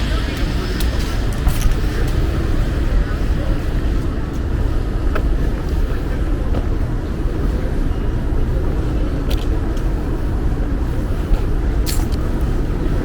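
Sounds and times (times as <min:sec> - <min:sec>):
street traffic: 0:00.0 - 0:13.0
wind buffeting microphone: 0:00.0 - 0:13.0.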